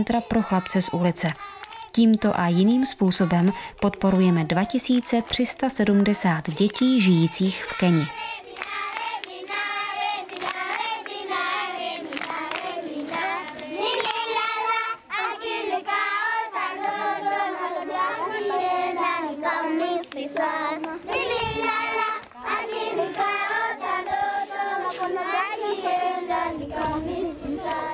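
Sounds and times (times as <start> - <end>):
children singing in unison: 0.0 - 2.2, 6.8 - 27.9.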